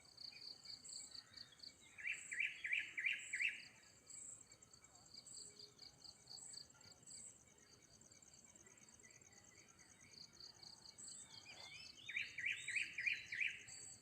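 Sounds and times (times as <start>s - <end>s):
bird chirping: 0.1s - 14.0s.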